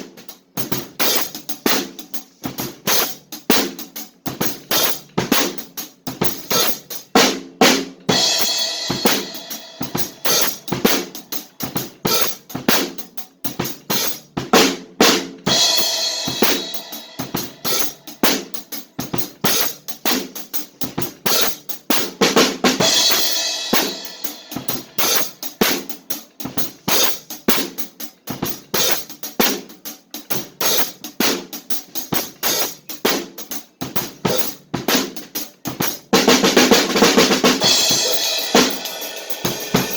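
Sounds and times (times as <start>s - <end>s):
drum kit beat: 0.0s - 39.9s.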